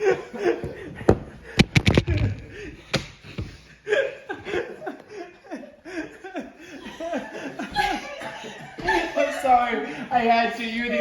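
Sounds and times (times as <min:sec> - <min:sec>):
men laughing: 0:00.0 - 0:02.9, 0:03.6 - 0:11.0.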